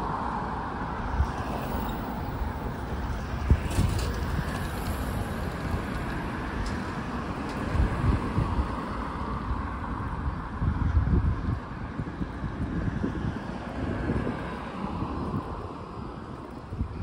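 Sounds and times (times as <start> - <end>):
passing cars: 0.0 - 17.0
wind buffeting microphone: 0.0 - 17.0.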